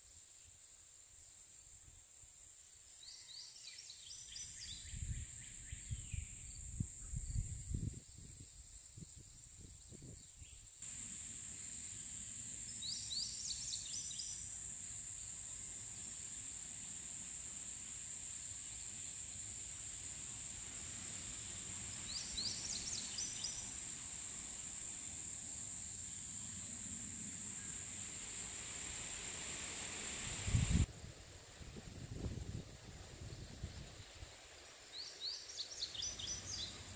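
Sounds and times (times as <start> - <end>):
insects trilling: 0.0 - 30.9, 32.0 - 36.9.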